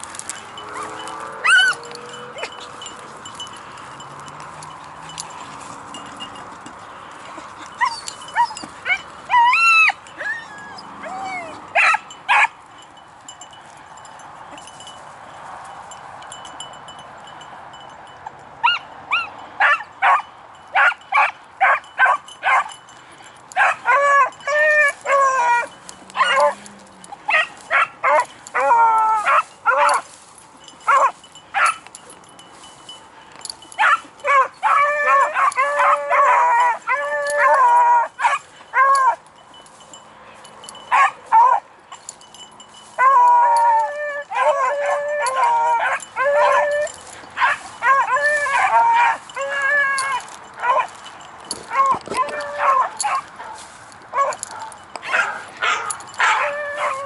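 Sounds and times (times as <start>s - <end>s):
dogs barking and yelping: 0.0s - 12.8s, 18.2s - 57.0s.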